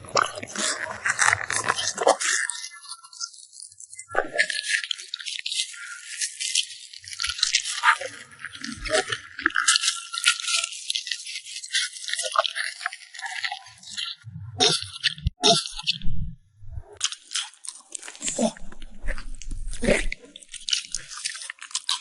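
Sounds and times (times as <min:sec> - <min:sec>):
dog chewing and crunching food: 0:00.1 - 0:15.7, 0:17.0 - 0:22.0.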